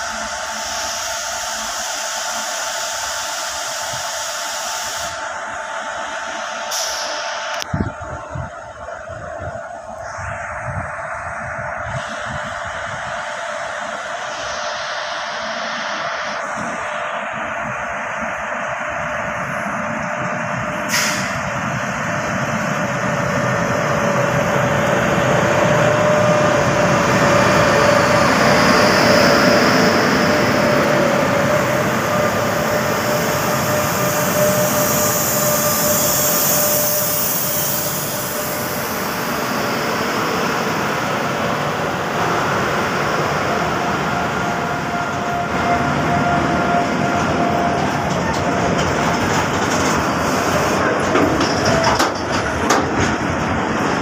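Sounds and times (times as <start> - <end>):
thin steady whine: 0.0 - 49.4
freight train rolling past: 0.0 - 54.0.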